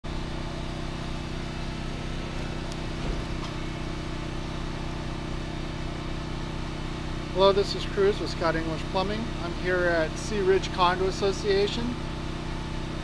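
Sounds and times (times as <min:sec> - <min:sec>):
engine idling: 0:00.1 - 0:13.0.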